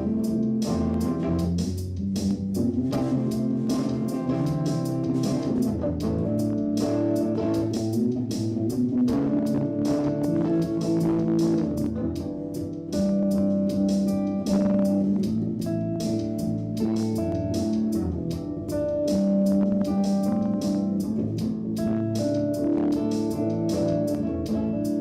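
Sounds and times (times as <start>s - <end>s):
guitar and bass over drum beat: 0.0s - 25.0s.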